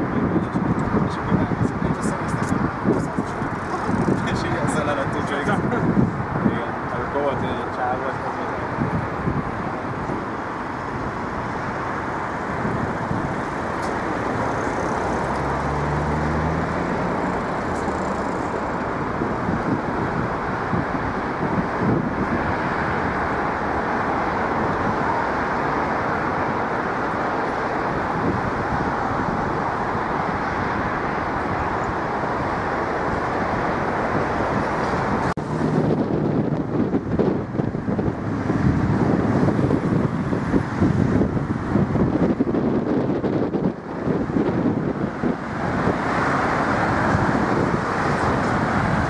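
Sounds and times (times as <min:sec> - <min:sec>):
city street traffic: 0:00.0 - 0:49.0
vehicle engine humming low: 0:00.0 - 0:49.0.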